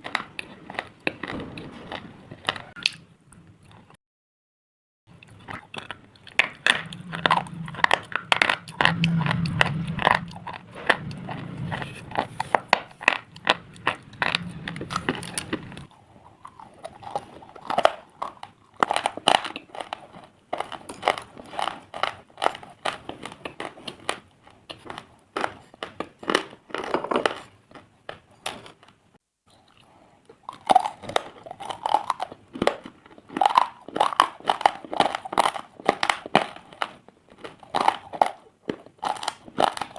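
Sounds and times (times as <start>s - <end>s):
slate being chewed and crunched: 5.1s - 39.9s.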